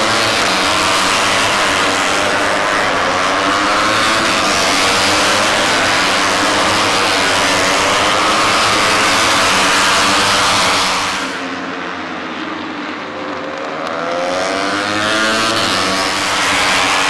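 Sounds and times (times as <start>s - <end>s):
motorcycle accelerating past: 0.0s - 11.6s, 13.6s - 17.0s
racing motorcycle engines: 0.0s - 17.0s.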